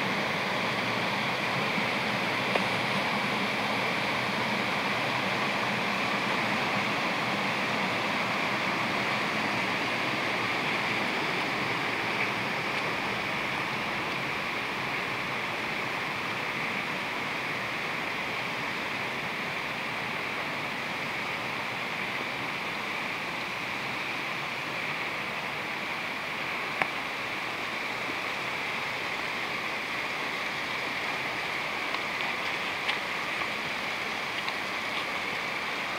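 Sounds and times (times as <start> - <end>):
stream rushing over stones: 0.0 - 35.9.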